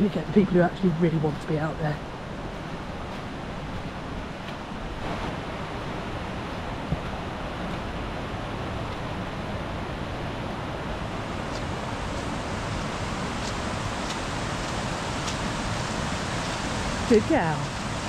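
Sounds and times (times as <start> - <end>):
fast-flowing river: 0.0 - 18.0.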